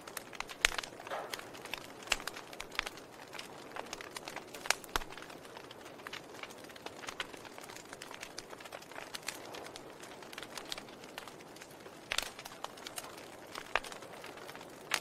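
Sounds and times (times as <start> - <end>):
fire popping: 0.0 - 15.0
soft steady hiss: 0.0 - 15.0
wood fire crackling: 0.0 - 15.0.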